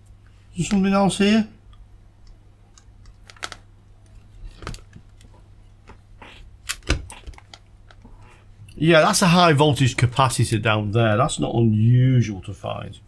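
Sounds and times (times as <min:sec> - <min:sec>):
faint steady low hum: 0:00.0 - 0:13.0.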